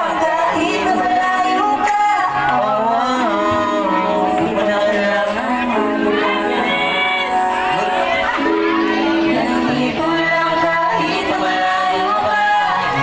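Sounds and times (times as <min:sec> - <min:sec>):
person singing into microphone: 0:00.0 - 0:13.0
pop backing track: 0:00.0 - 0:13.0.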